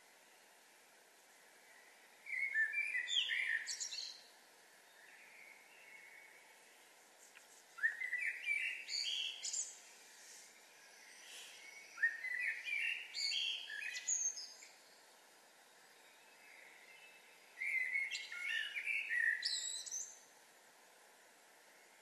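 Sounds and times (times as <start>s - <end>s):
faint low background noise: 0.0s - 22.0s
songbird singing: 0.0s - 22.0s.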